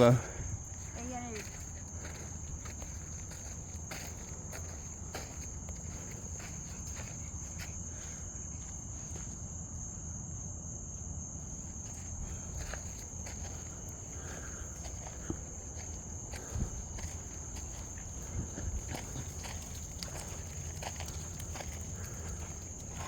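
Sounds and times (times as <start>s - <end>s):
footsteps on trail: 0.0s - 9.4s, 11.5s - 23.0s
insect chorus trilling: 0.0s - 23.0s.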